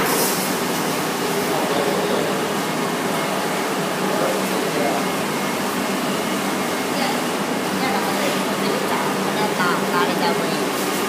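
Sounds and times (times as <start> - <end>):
cooling fans rushing air: 0.0 - 11.0.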